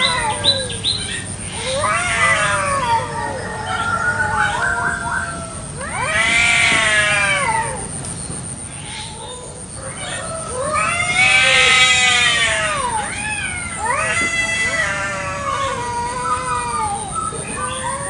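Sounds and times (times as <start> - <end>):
cats yowling: 0.0 - 8.0, 8.7 - 18.0.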